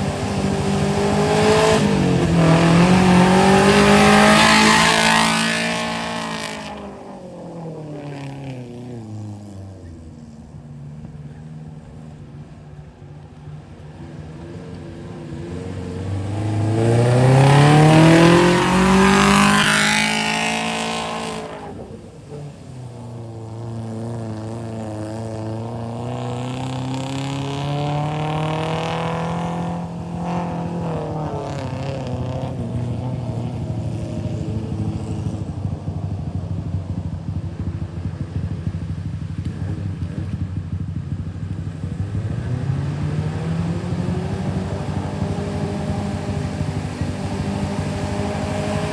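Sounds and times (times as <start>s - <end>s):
off-road vehicle engine revving: 0.0s - 48.9s.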